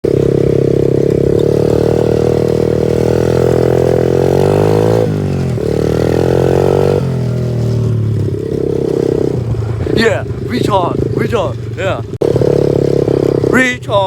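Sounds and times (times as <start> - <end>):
small motorbike engine revving: 0.0 - 14.0.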